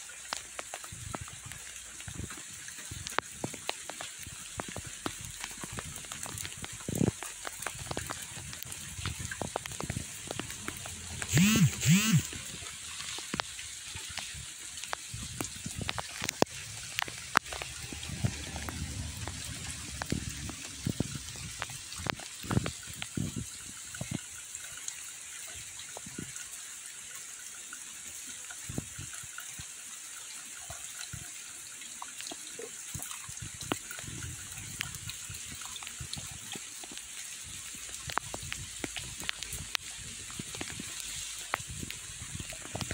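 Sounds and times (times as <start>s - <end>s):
light drizzle hissing on leaves: 0.0s - 26.6s, 31.0s - 42.9s
raindrops ticking close by: 0.0s - 42.9s.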